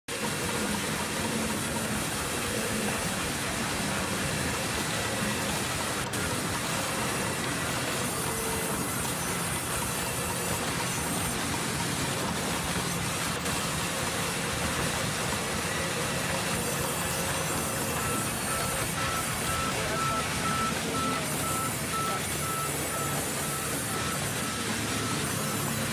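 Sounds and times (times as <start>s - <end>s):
band saw cutting through log: 0.1s - 25.9s.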